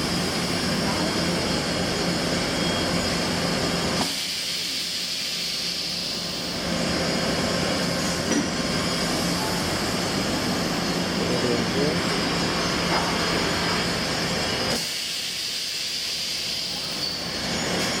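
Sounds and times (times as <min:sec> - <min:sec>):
workshop machinery and fans: 0:00.0 - 0:18.0.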